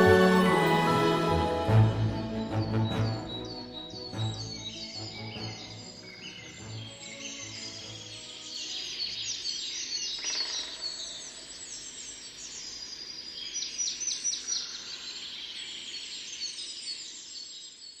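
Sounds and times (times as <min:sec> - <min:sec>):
birds singing and calling: 0:01.9 - 0:18.0.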